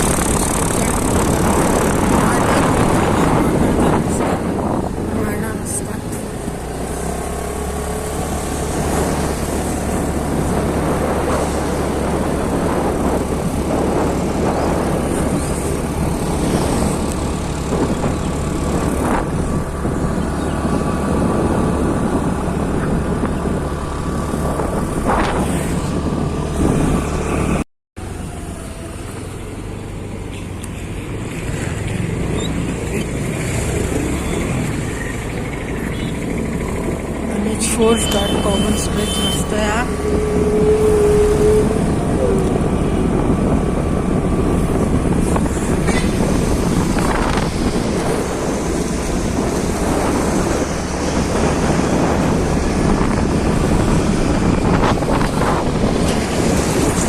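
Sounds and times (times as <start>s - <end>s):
wind rushing over microphone: 0.0s - 27.6s, 28.7s - 57.0s
motorcycle running: 0.0s - 57.0s.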